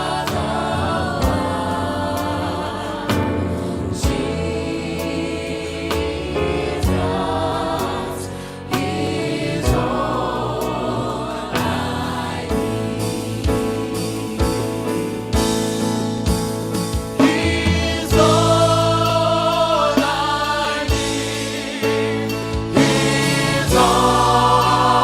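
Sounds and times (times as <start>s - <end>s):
gospel choir singing: 0.0s - 25.0s
instrumental accompaniment: 0.0s - 25.0s.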